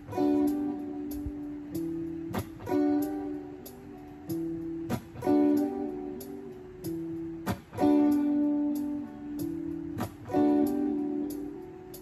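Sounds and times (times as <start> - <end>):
acoustic chords strummed: 0.0 - 12.0.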